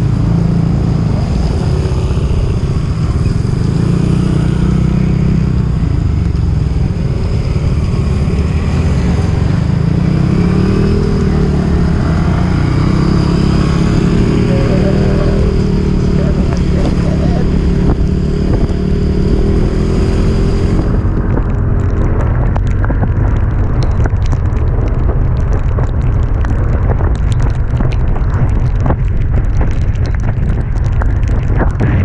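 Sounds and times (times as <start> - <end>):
motorcycle engine climbing uphill: 0.0 - 32.0.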